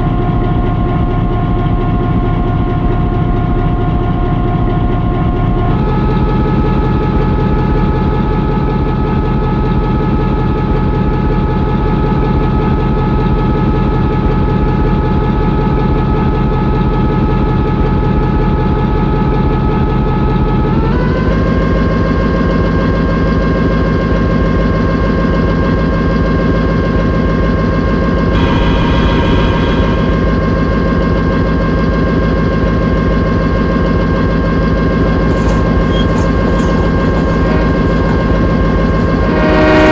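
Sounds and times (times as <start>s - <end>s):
locomotive engine running: 0.0s - 39.9s.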